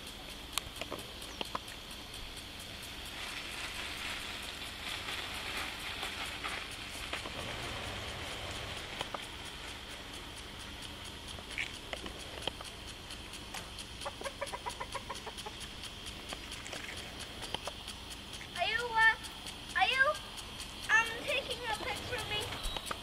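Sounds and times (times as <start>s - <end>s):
steady high outdoor hiss: 0.0s - 23.0s.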